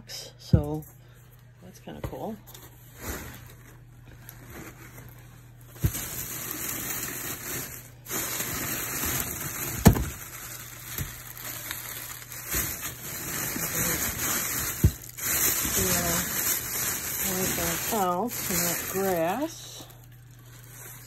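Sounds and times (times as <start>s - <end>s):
rustling of packing grass and cardboard: 2.8s - 21.0s.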